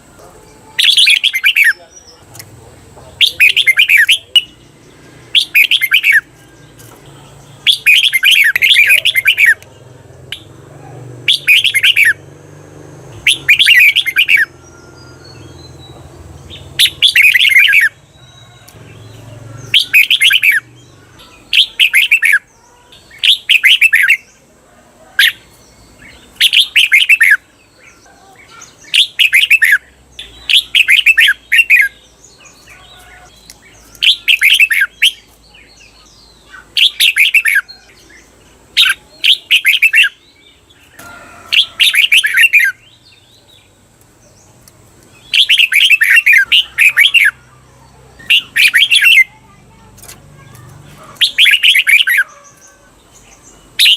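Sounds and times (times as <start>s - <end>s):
bulbul warbling song: 0.0s - 24.4s, 25.2s - 43.0s, 43.8s - 53.9s.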